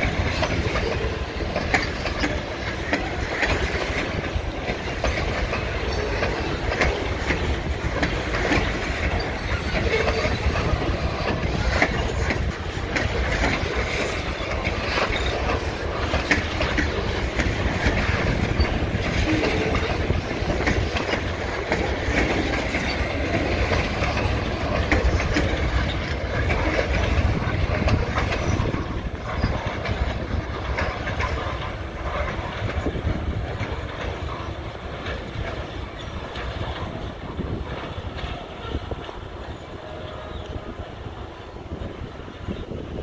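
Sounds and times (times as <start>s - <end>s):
train wheels clacking on rails: 0.0s - 43.0s.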